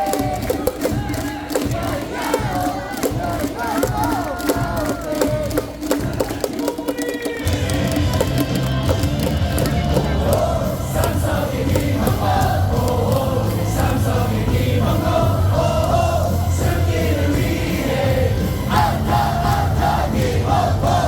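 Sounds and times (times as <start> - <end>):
stadium crowd singing in unison: 0.0 - 6.7, 7.5 - 21.0
loud music over pa system: 0.0 - 21.0.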